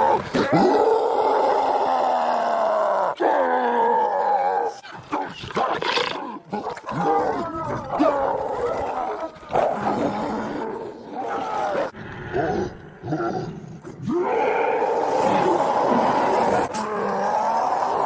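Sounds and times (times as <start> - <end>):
creature roars and growls: 0.0 - 4.8, 5.8 - 18.0.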